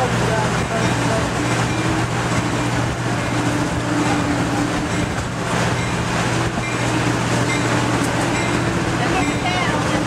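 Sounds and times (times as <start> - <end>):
train rolling rumble: 0.0 - 10.0.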